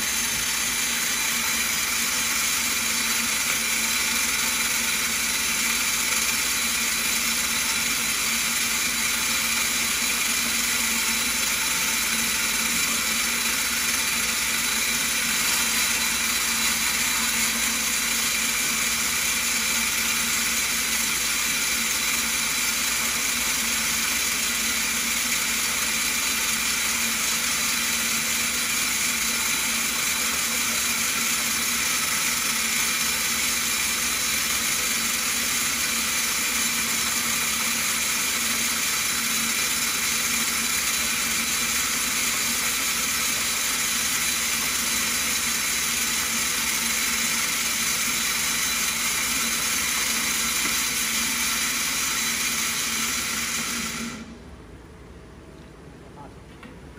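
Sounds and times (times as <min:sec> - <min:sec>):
milling machine whirring: 0:00.0 - 0:54.5.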